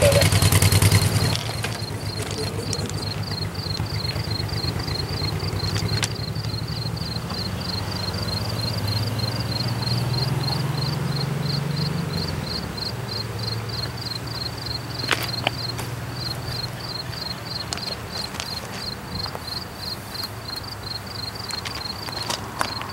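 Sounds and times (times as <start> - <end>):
insects chirping: 0.0 - 22.9
locomotive diesel engine drone: 0.0 - 22.9.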